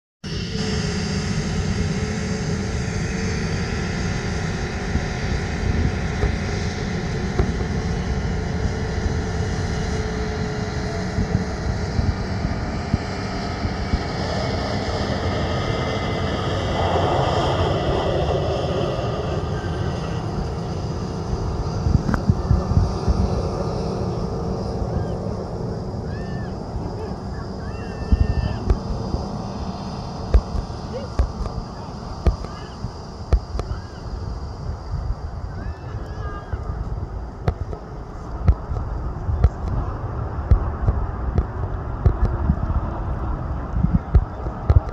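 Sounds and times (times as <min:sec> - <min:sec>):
jet engine noise: 0:00.2 - 0:44.9.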